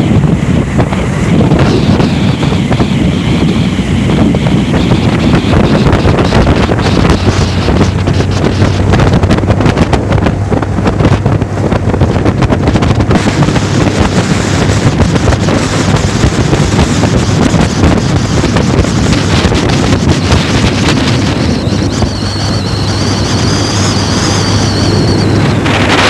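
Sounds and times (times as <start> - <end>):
outboard motor droning: 0.0 - 26.0
wind buffeting microphone: 0.0 - 26.0.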